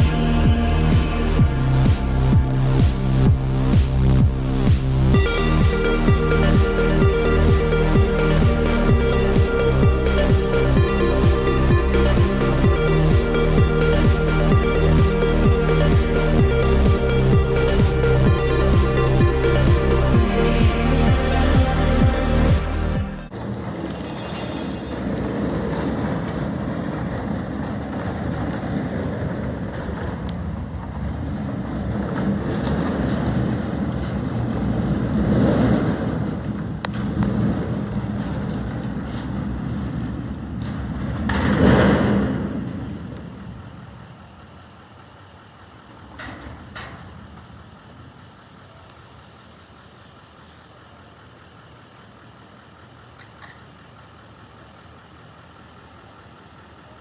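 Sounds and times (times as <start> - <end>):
garbage truck engine running: 0.0 - 57.0.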